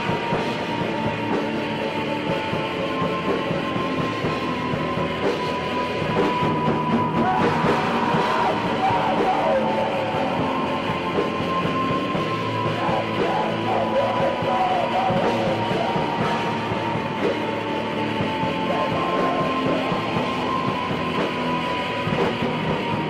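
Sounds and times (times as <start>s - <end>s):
lo-fi black metal band: 0.0s - 23.0s
steady high tone: 0.0s - 23.0s.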